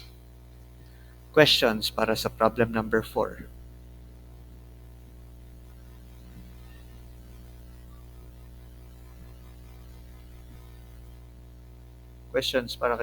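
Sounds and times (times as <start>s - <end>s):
buzzy electrical mains hum: 0.0s - 13.0s.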